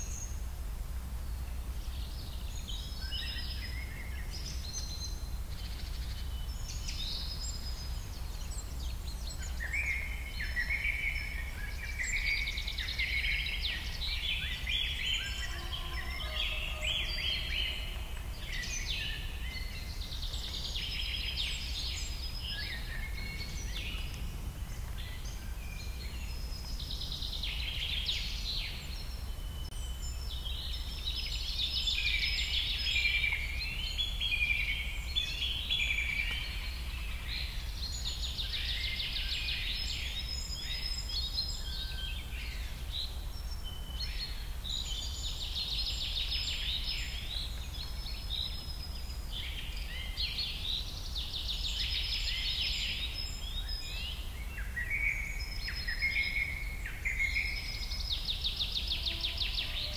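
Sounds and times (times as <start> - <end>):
birds chirping and trilling: 0.0 - 0.5, 1.2 - 59.9.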